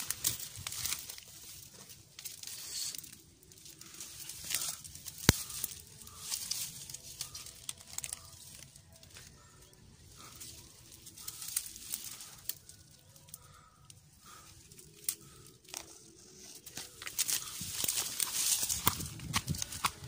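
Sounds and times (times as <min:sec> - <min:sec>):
sharp branch crack: 0:00.0 - 0:09.5, 0:10.1 - 0:20.0
footsteps through dry leaves: 0:00.0 - 0:13.6, 0:14.2 - 0:20.0.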